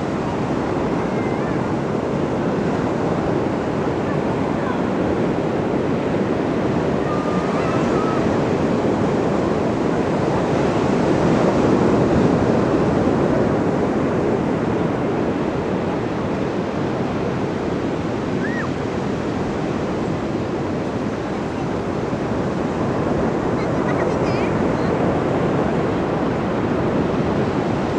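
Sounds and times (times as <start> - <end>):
ocean surf washing ashore: 0.0 - 27.9.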